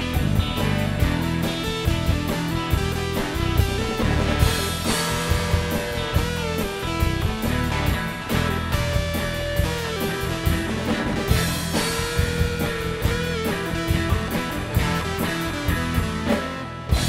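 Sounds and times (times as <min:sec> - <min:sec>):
bending lead guitar notes: 0:00.0 - 0:17.0
instrumental rock band: 0:00.0 - 0:17.0.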